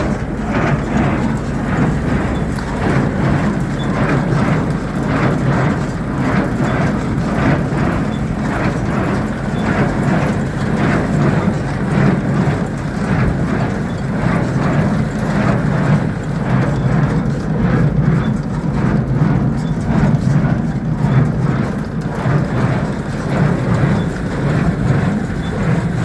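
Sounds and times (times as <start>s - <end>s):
baler mechanical rumble with beat: 0.0s - 26.0s.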